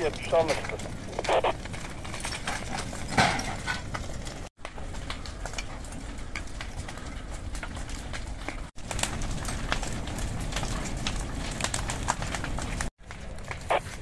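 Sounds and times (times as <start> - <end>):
house fire crackling and popping: 0.0 - 14.0.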